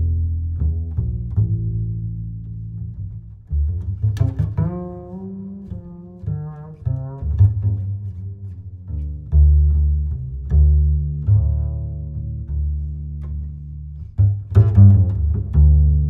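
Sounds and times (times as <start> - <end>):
music with deep bass notes: 0.0 - 16.0.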